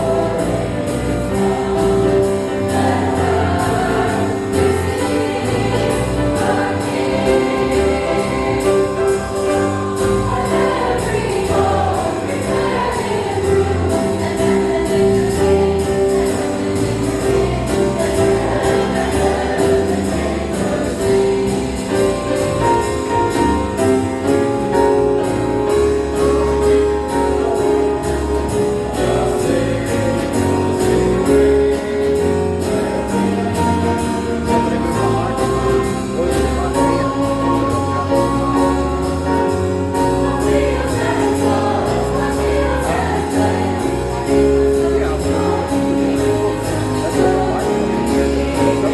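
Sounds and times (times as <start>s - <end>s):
choir singing with band: 0.0s - 48.9s
steady percussion beat: 0.0s - 48.9s.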